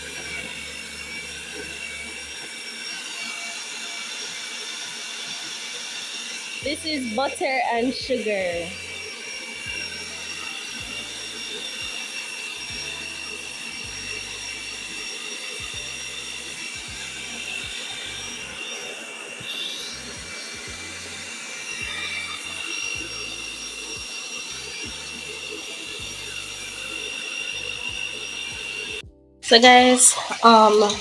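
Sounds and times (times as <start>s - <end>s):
electric mixer whining: 0.0s - 31.0s.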